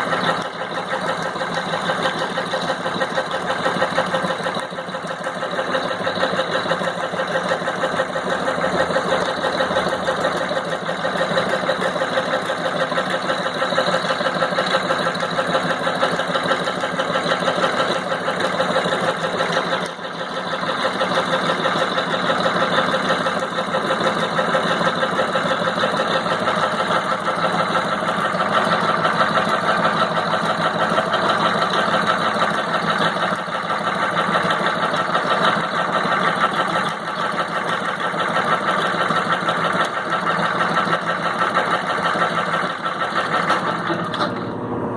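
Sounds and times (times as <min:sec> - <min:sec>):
sewing machine running: 0:00.0 - 0:44.8.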